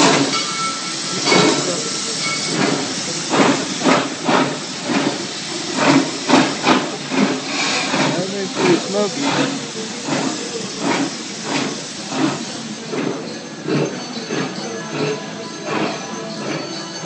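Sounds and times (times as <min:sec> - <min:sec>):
steam hissing: 0:00.0 - 0:17.0
steam locomotive exhaust chuffs: 0:00.0 - 0:17.0.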